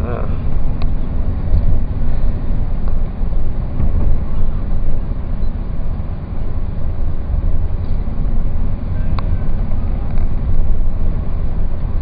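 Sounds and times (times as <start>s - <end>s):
car interior road rumble: 0.0s - 12.0s
wind noise: 0.0s - 12.0s.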